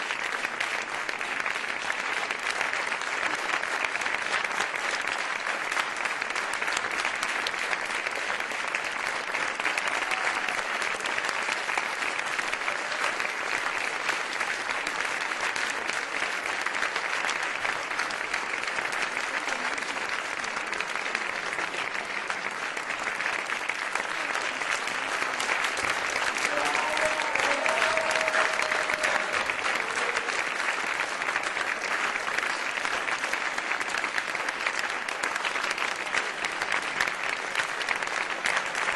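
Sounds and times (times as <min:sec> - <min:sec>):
audience applauding: 0:00.0 - 0:38.9.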